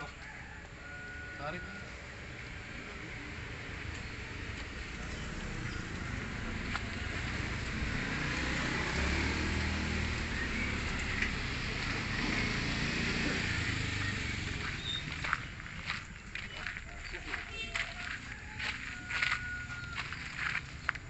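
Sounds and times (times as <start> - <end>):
vehicle engine rumbling: 1.4 - 21.0.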